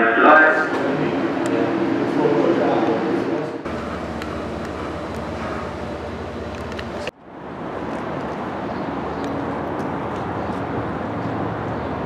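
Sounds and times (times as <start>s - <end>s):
outdoor rush with low hum: 0.0s - 12.0s.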